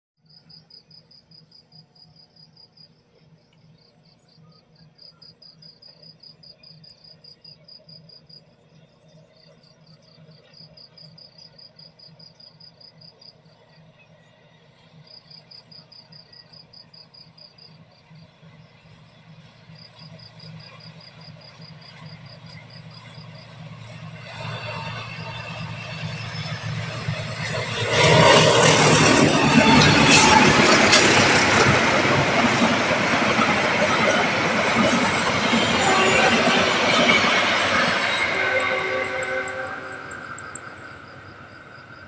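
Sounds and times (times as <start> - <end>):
cricket chirping: 3.8 - 13.8, 15.0 - 42.0.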